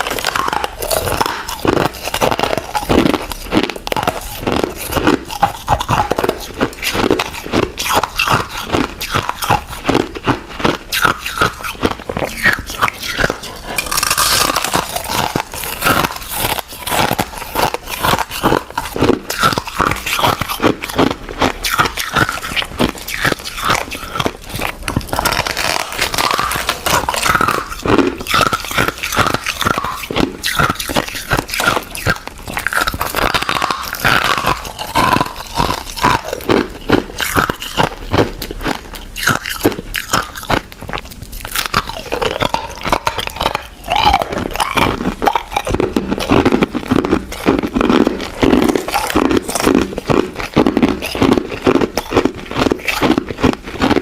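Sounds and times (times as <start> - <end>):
ice being crunched: 0.0 - 11.7, 12.3 - 54.0.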